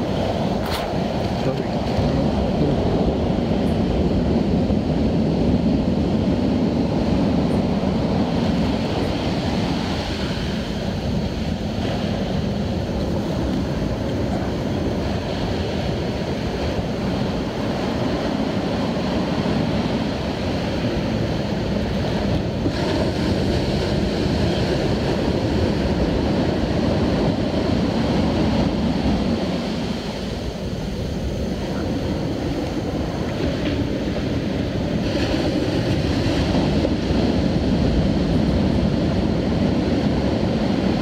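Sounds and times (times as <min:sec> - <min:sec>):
surf breaking on beach: 0:00.0 - 0:41.0
wind on microphone: 0:00.0 - 0:41.0.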